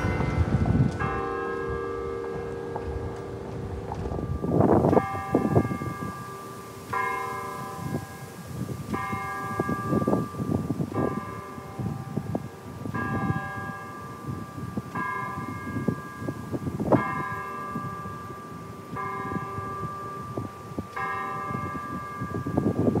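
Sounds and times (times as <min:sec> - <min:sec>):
tower bell ringing: 0:00.0 - 0:23.0.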